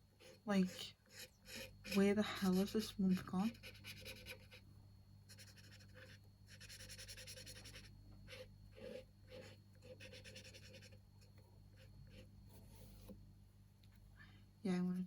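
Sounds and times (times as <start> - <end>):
colouring scratching on paper: 0.2 - 4.6, 5.3 - 13.2.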